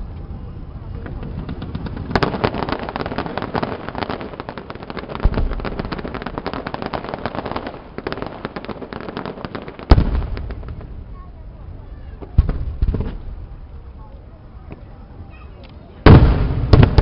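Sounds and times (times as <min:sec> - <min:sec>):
fireworks bangs: 0:00.0 - 0:15.3, 0:15.9 - 0:17.0
fireworks crackling: 0:00.0 - 0:17.0.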